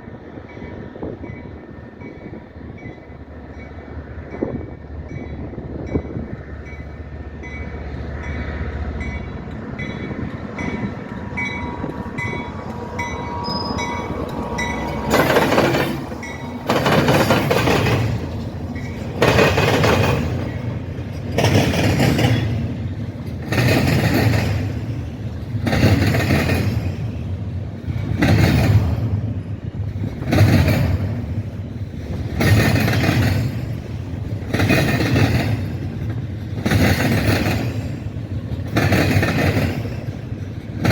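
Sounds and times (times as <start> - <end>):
low train rumble: 0.0 - 40.9
train wheels clattering: 2.1 - 40.9.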